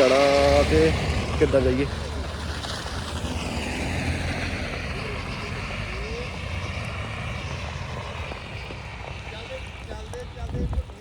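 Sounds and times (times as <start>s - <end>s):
car engine rumble: 0.0s - 11.0s
tyre and road noise: 0.0s - 11.0s.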